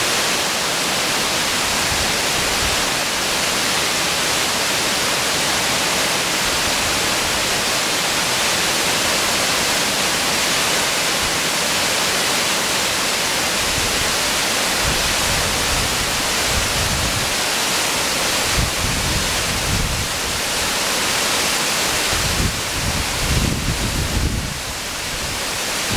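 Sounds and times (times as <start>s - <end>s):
waterfall rushing water: 0.0s - 25.9s.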